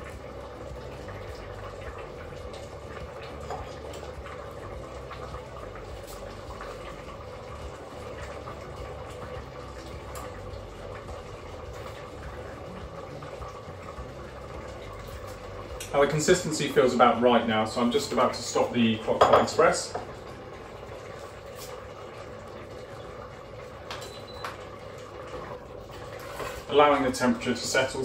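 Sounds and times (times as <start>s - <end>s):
noodles boiling in broth: 0.0s - 28.0s.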